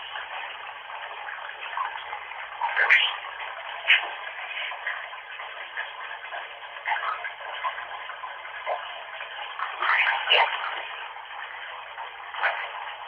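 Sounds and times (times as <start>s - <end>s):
bathwater running from a tap: 0.0s - 13.0s.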